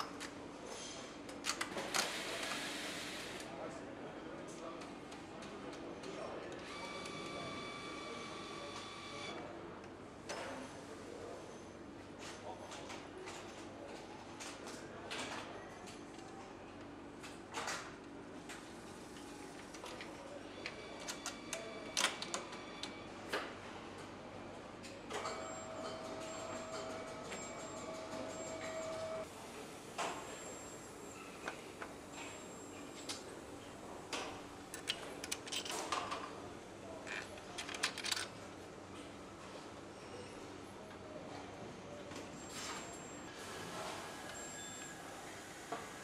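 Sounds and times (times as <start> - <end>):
factory hum: 0.0 - 46.0.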